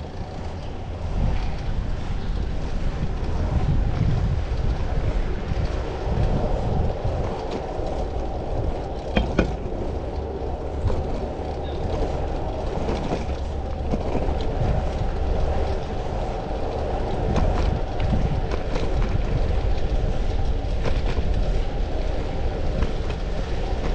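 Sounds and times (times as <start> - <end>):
bicycle clicks and rattles: 0.0 - 23.9
road noise rumble: 0.0 - 23.9
wind on microphone: 0.0 - 23.9.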